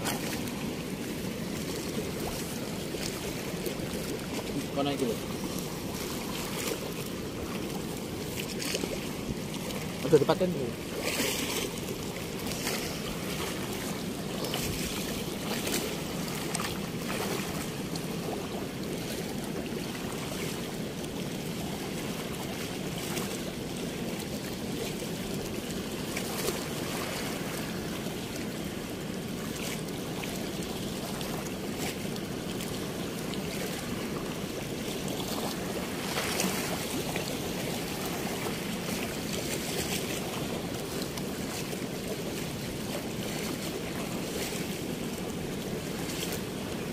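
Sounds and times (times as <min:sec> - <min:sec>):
water rushing through sluice gate: 0:00.0 - 0:46.9
water splashes: 0:00.0 - 0:46.9.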